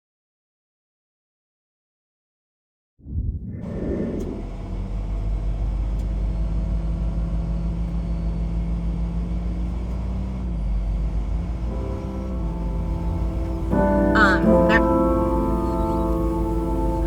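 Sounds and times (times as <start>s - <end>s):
truck diesel engine rumbling: 3.2s - 17.0s.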